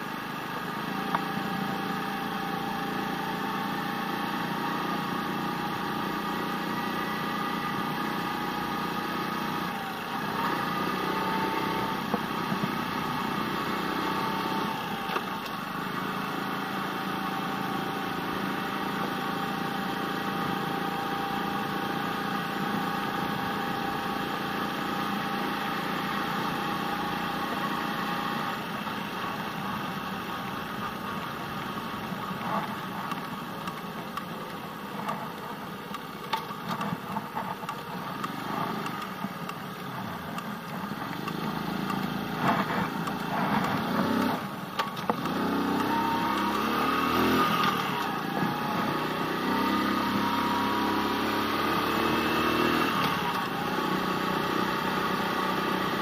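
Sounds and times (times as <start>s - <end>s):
motorbike engine: 0.0s - 56.0s.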